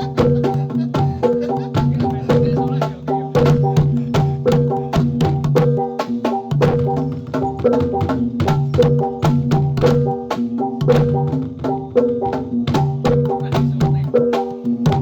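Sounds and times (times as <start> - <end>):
drums: 0.0 - 15.0.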